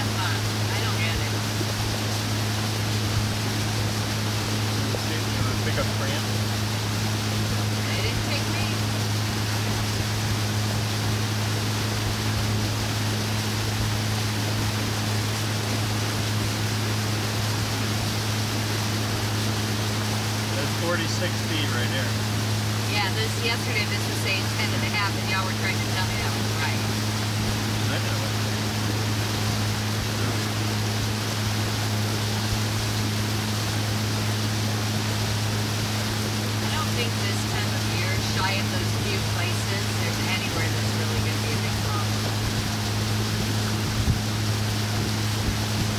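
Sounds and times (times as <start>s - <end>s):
motorboat engine drone: 0.0s - 45.9s
rushing water hiss: 0.0s - 45.9s.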